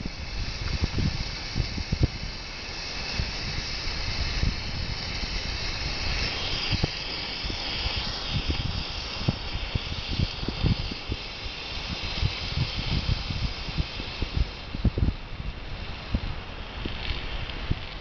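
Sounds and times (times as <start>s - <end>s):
road flare hissing: 0.0s - 18.0s.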